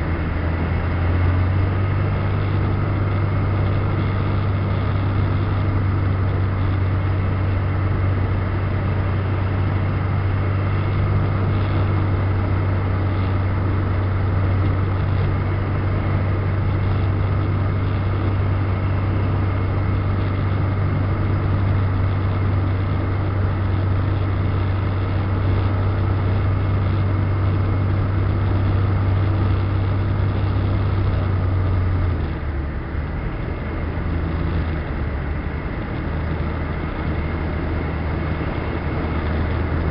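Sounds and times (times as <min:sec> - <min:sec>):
ultralight engine and propeller drone: 0:00.0 - 0:39.9.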